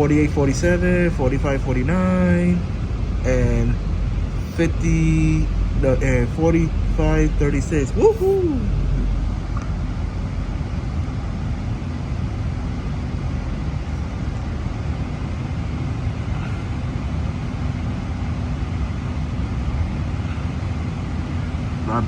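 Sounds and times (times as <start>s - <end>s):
train running rumble and hum: 0.0s - 22.0s.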